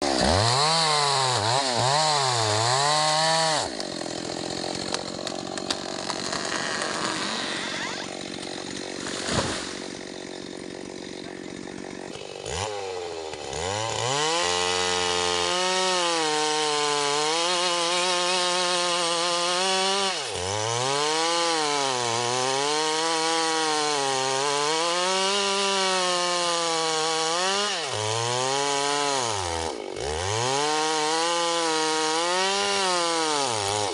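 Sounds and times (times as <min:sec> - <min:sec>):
chainsaw cutting log: 0:00.0 - 0:33.9.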